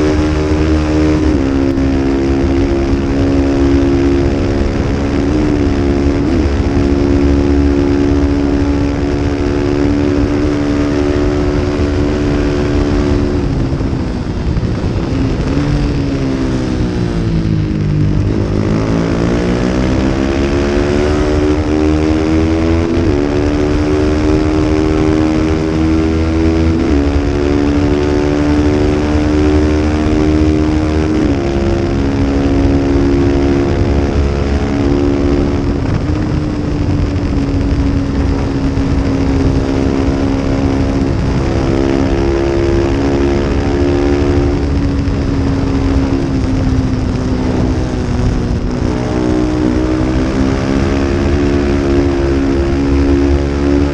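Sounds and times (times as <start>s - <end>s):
race motorcycle engine revving: 0.0s - 53.9s.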